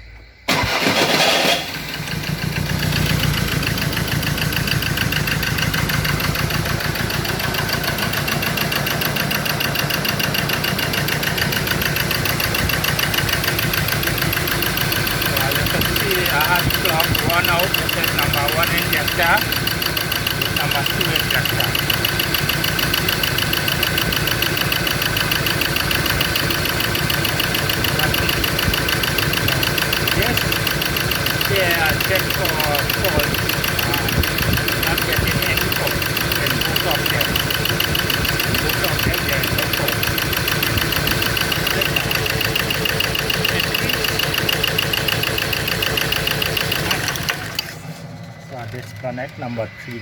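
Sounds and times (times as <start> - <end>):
diesel engine idling with ticking: 0.3 - 50.0.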